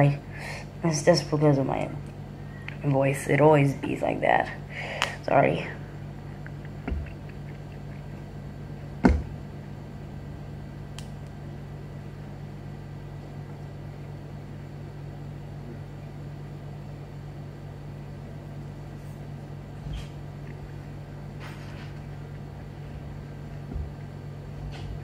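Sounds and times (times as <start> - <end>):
low appliance hum: 0.0 - 25.0.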